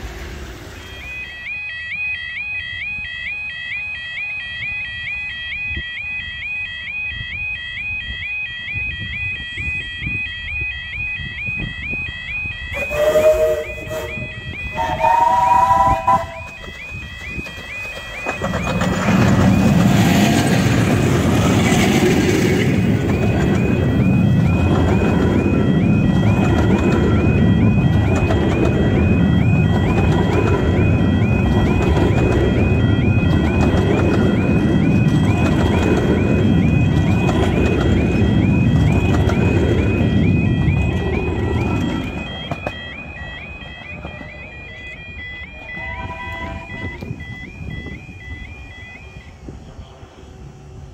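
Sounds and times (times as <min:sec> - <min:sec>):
miniature steam train rumbling over rails: 0:00.0 - 0:01.6, 0:11.5 - 0:50.9
two-tone warbling crossing alarm: 0:00.6 - 0:50.9.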